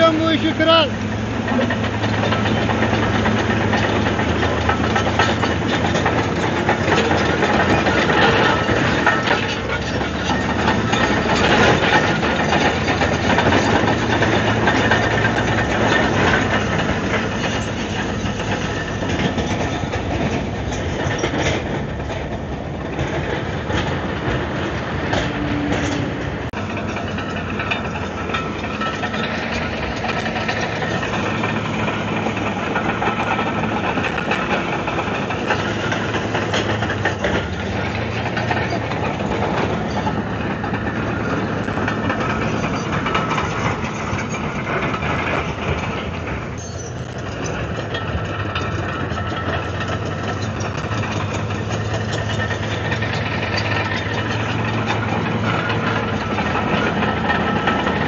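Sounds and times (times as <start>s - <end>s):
bulldozer diesel engine running: 0.0s - 58.0s
clatter of steel tracks: 0.0s - 58.0s.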